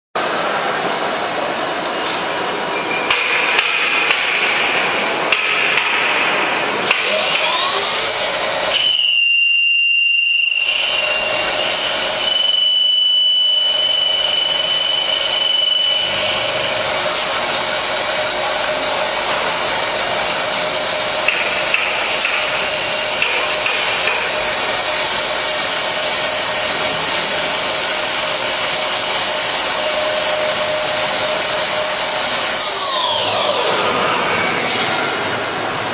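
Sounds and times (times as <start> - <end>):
high spindle whine: 0.2 - 35.9
lathe machining noise: 2.5 - 35.9.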